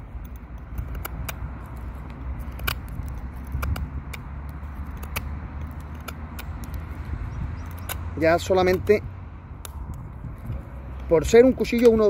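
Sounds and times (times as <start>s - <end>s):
knife cutting wood clicks: 0.2s - 9.0s, 11.0s - 12.0s.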